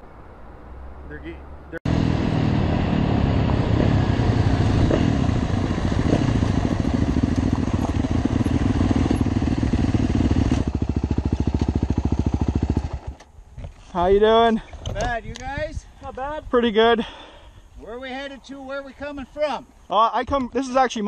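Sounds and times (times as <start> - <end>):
dirt bike engines idling: 1.0 - 20.9.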